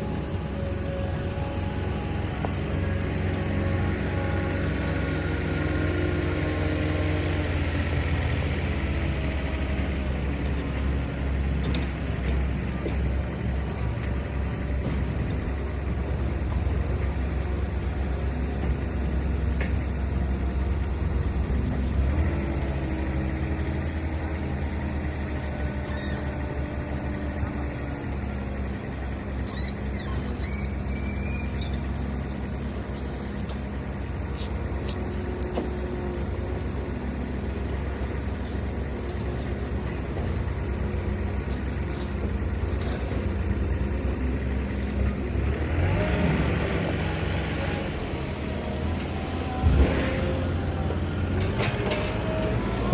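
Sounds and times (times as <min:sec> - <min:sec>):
diesel truck engine droning: 0:00.0 - 0:52.9.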